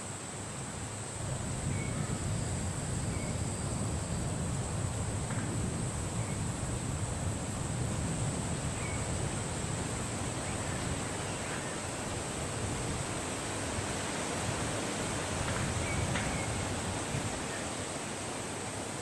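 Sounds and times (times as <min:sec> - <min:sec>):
wind blowing: 0:00.0 - 0:18.6
high-pitched hiss: 0:00.0 - 0:19.0.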